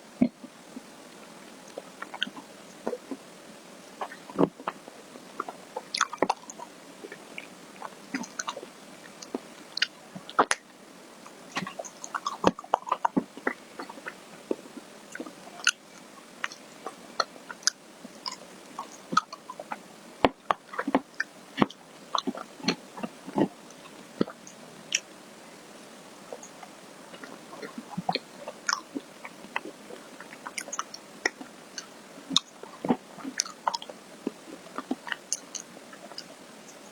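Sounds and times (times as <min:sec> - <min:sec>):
mouth sounds eating ice cream: 0:00.2 - 0:03.3, 0:03.9 - 0:36.9.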